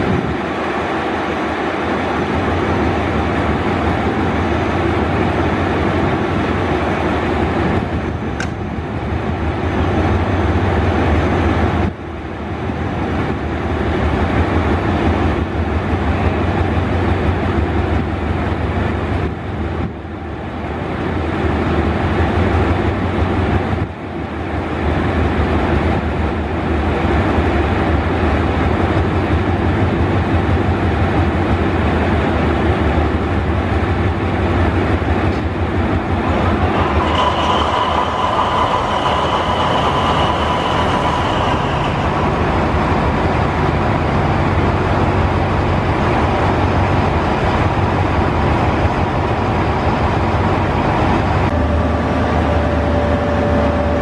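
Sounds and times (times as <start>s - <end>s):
diesel locomotive idling: 0.0s - 54.0s.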